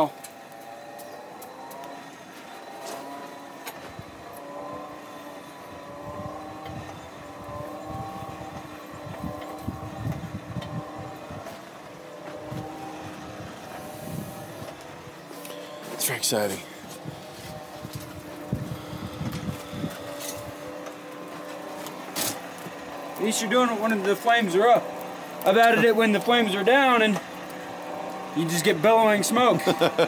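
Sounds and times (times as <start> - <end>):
hand-cranked blower whirring: 0.0 - 30.0.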